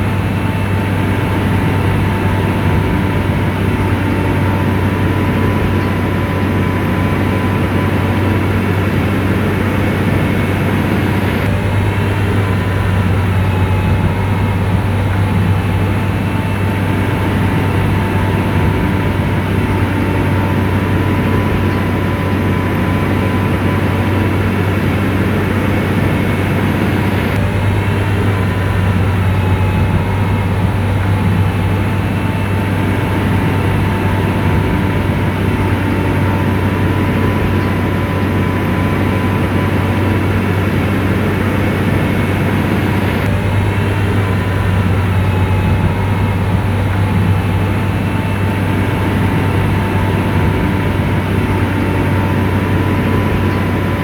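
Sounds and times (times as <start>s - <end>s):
bulldozer diesel engine running: 0.0s - 54.0s
faint steady whine: 0.0s - 54.0s.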